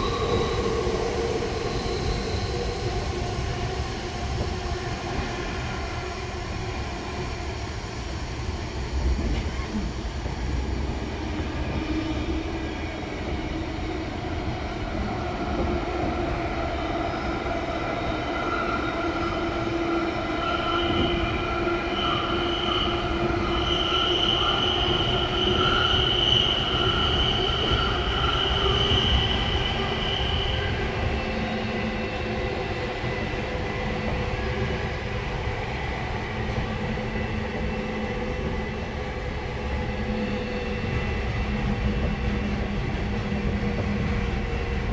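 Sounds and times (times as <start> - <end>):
train wheels rumbling in tunnel: 0.0 - 44.9.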